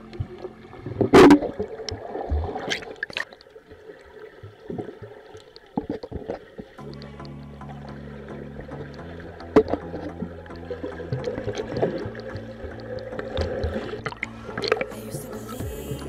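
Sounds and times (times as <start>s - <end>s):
underwater gurgling and bubbling: 0.0s - 16.0s.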